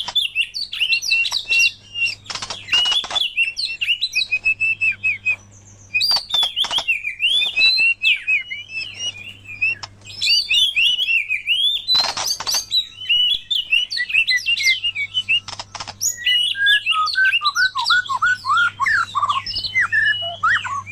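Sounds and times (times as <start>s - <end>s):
songbirds whistling and trilling: 0.0s - 20.9s.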